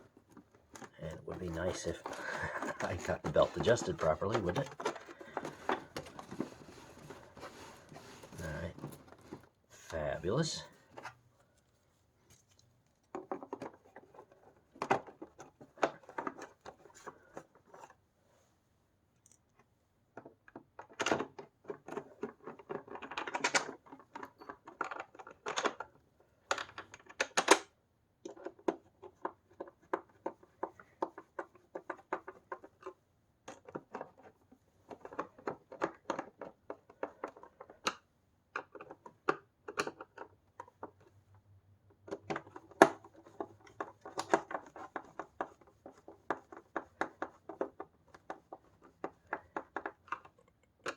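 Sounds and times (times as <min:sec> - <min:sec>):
plastic clicks knocks and scrapes: 0:00.0 - 0:10.0, 0:12.4 - 0:18.0, 0:19.3 - 0:50.9.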